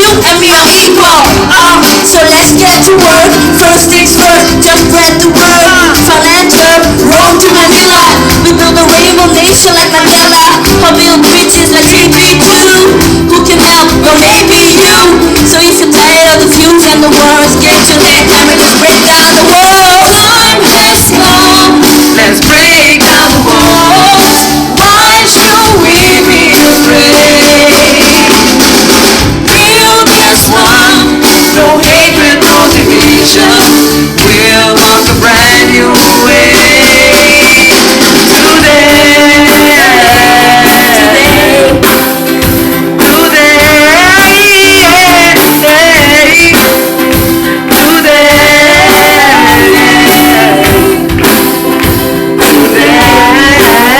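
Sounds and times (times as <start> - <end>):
song with singing: 0.0 - 53.9.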